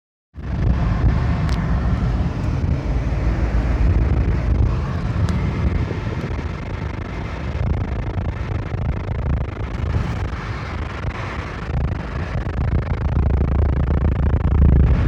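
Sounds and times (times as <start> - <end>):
car engine running low-pitched: 0.4 - 15.0.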